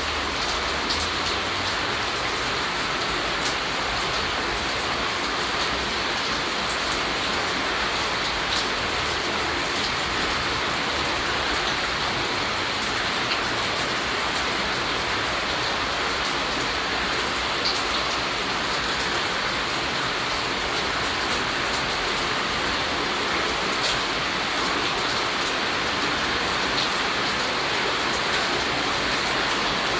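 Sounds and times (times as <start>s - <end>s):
steady rain falling: 0.0s - 29.9s.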